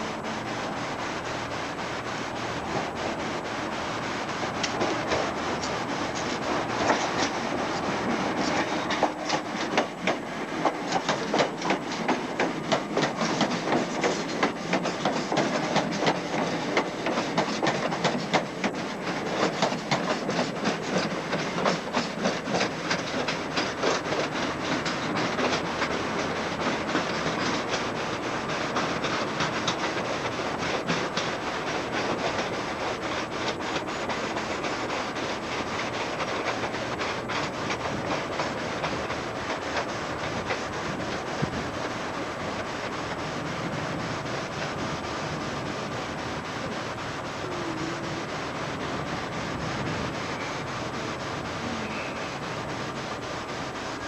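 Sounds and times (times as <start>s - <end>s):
train wheels clattering over rail joints: 2.6s - 47.3s.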